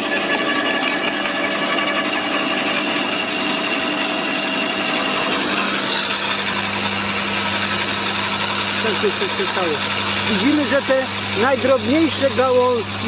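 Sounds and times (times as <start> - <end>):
electric motor hum: 0.0 - 13.0
shredder chewing through sticks: 0.0 - 13.0.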